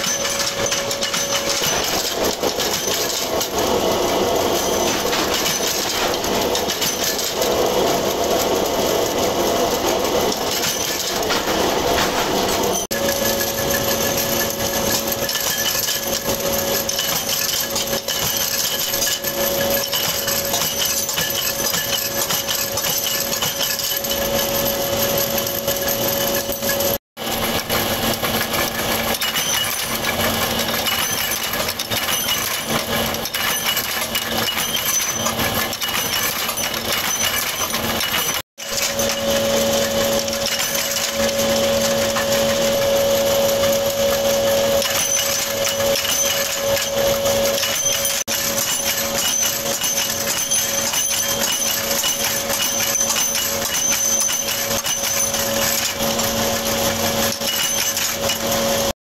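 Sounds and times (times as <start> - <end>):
rods clinking against iron: 0.0 - 58.9.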